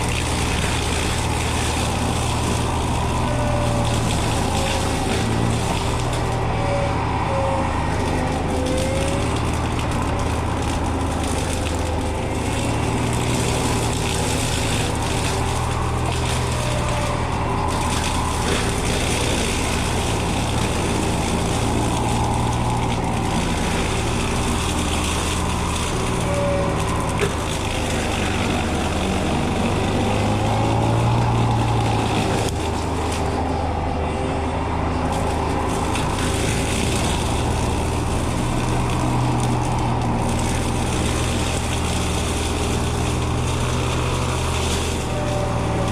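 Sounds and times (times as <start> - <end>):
brush cutter whine: 0.0 - 45.9
excavator engine drone: 0.0 - 45.9.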